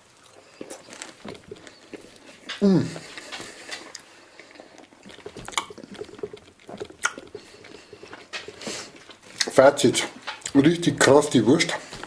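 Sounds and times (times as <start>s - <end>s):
person chewing: 0.0s - 11.0s, 11.7s - 12.0s.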